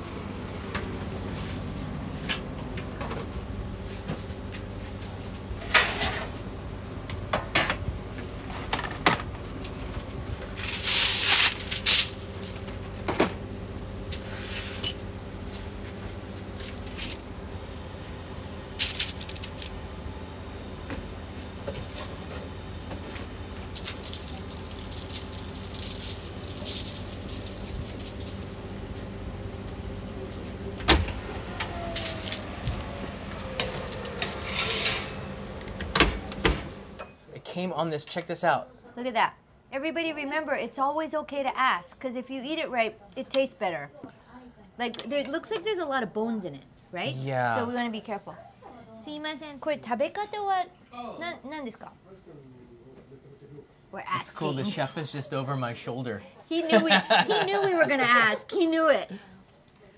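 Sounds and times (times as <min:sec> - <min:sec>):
low kitchen hum: 0:00.0 - 0:37.6, 0:38.7 - 0:59.9.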